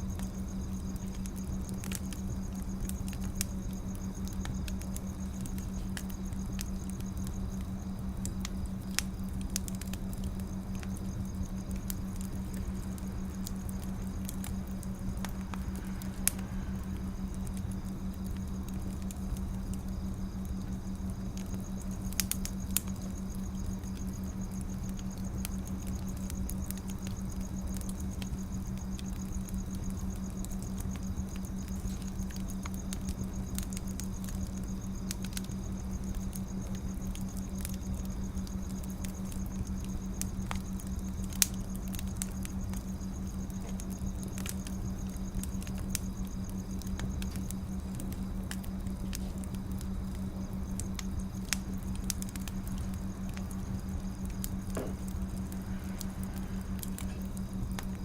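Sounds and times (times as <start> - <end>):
firewood crackling and popping: 0.0 - 58.0
steady low hum: 0.0 - 58.0.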